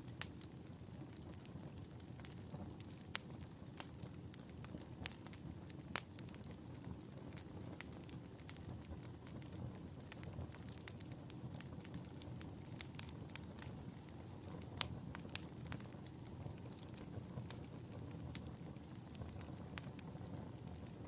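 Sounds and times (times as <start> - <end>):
fire crackles and pops: 0.0 - 21.0
fire flames rumbling: 0.0 - 21.0.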